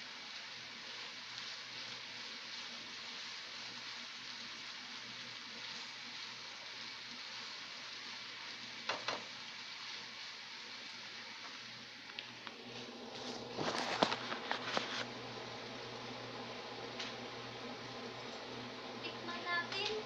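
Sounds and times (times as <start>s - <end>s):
meat and potatoes sizzling in a pan: 0.0s - 20.0s.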